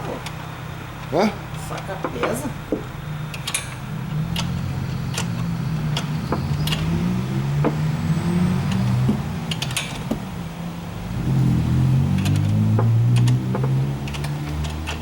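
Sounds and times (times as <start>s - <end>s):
low uneven hum: 0.0s - 13.0s
sharp metallic clicks: 0.2s - 10.6s, 12.0s - 15.0s.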